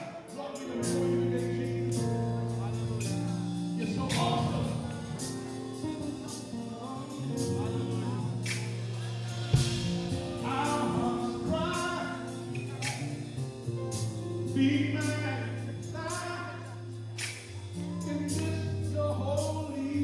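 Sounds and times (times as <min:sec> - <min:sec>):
band playing held chords: 0:00.0 - 0:20.0
choir singing gospel: 0:00.0 - 0:20.0.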